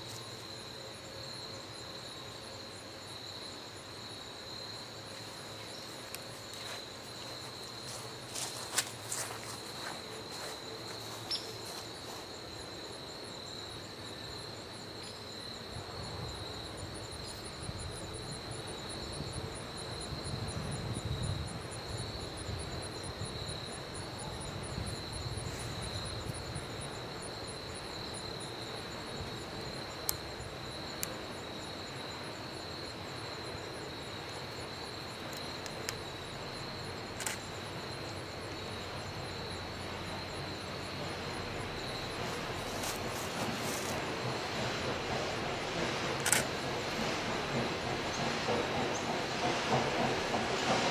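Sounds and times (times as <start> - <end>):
insects trilling: 0.0 - 50.9
pulsing insect chirp: 0.0 - 50.9.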